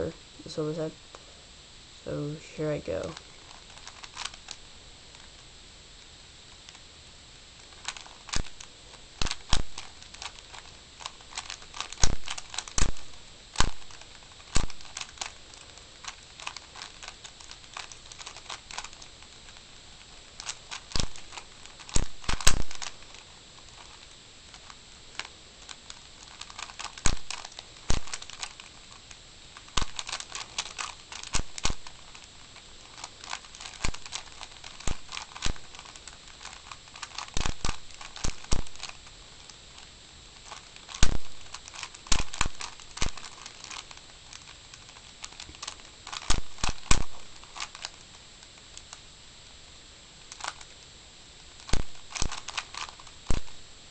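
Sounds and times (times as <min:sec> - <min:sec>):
rubik's cube plastic clicks: 0:03.0 - 0:05.4, 0:07.6 - 0:49.1, 0:50.2 - 0:53.6.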